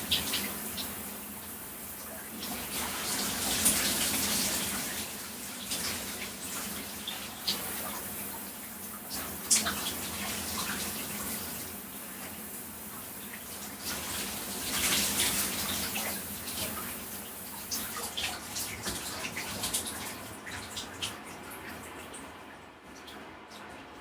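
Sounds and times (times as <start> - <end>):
shower spray on body: 0.0 - 21.1
water splashes and drips: 0.0 - 24.0.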